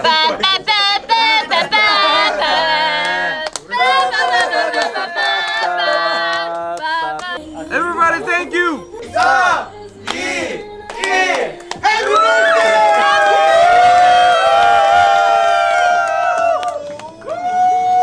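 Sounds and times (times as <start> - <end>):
voices singing long notes: 0.0 - 15.3.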